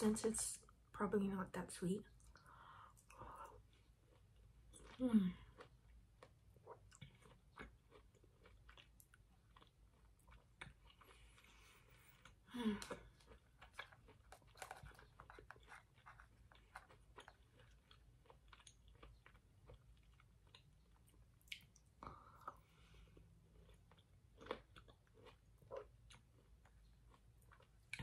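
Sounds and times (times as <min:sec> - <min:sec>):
chewing orange: 0:02.2 - 0:28.0.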